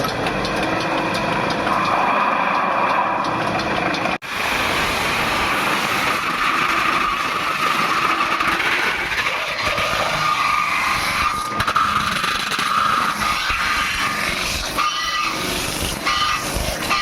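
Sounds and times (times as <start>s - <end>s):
machinery drone and hiss: 0.0s - 12.0s, 12.8s - 17.0s.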